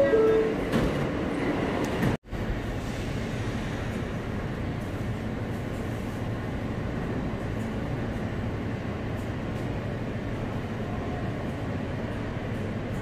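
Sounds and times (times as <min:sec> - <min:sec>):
subway train rumble and hum: 0:00.0 - 0:13.0.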